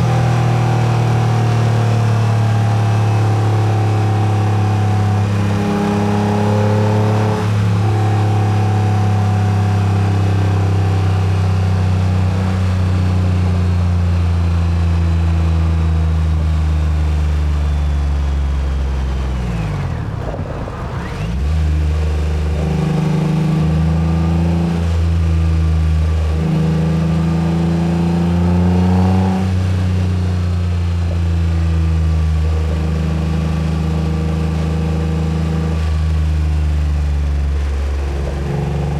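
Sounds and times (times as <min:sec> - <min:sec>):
car engine revving and shifting: 0:00.0 - 0:38.9.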